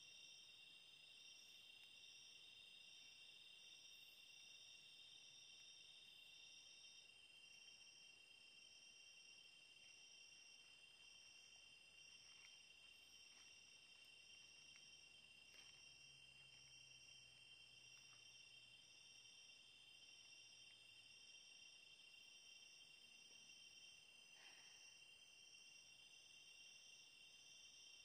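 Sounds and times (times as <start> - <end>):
night insects chorus: 0.0 - 28.0.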